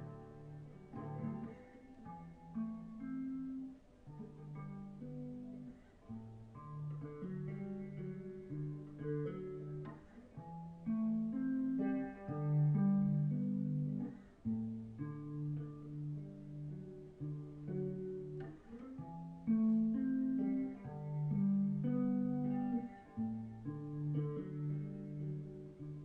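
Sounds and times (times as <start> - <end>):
fingerstyle acoustic guitar: 0.0 - 26.0.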